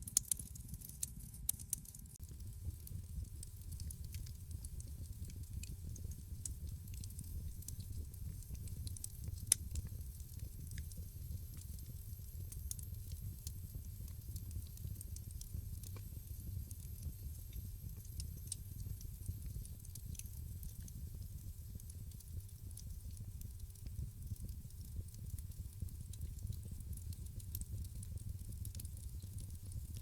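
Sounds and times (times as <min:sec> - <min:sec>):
fire popping and snapping: 0:00.0 - 0:30.0
low rumble of flames: 0:00.1 - 0:30.0.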